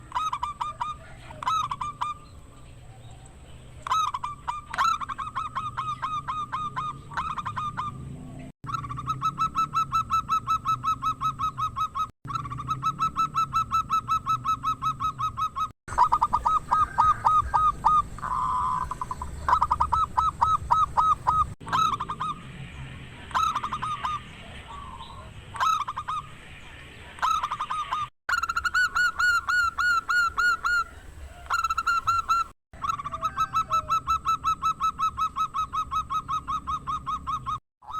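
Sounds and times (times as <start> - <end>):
dove cooing: 0.0 - 26.3, 27.0 - 37.9.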